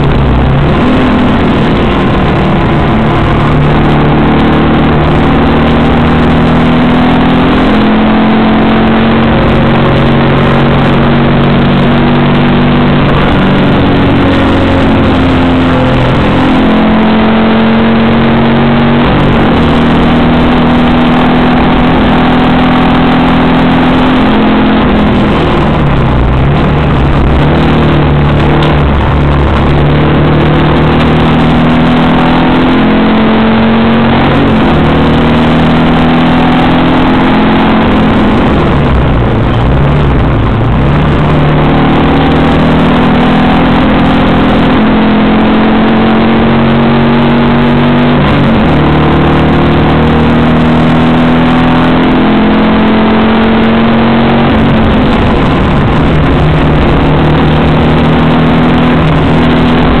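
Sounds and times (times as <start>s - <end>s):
race car engine accelerating: 0.0s - 60.0s.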